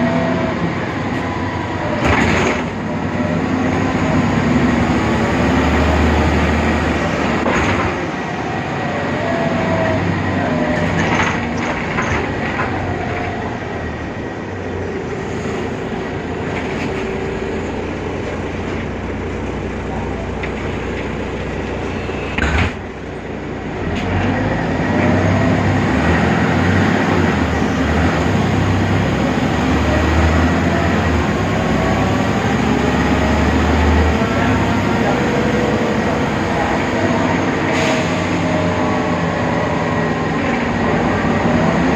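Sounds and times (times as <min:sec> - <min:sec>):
bus engine droning: 0:00.0 - 0:41.9.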